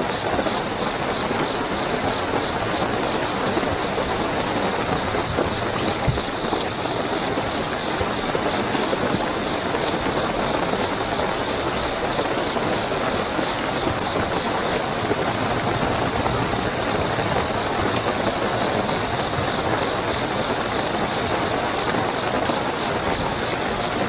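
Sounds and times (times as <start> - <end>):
crickets trilling: 0.0 - 24.0
heavy rainfall: 0.0 - 24.0.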